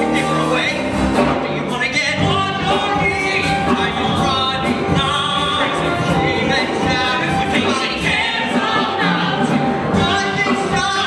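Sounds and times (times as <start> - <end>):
musical accompaniment: 0.0 - 11.0
musical theatre singing: 0.0 - 11.0.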